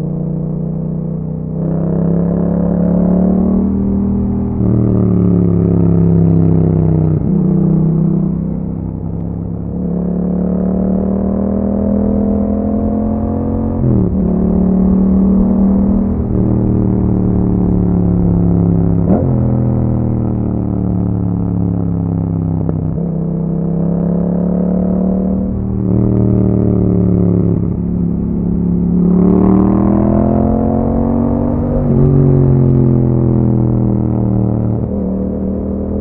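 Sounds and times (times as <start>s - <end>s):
motorcycle engine exhaust note: 3.8s - 36.0s.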